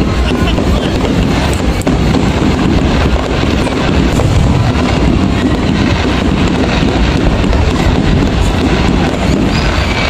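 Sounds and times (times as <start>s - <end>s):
fireworks booming: 0.0s - 10.0s.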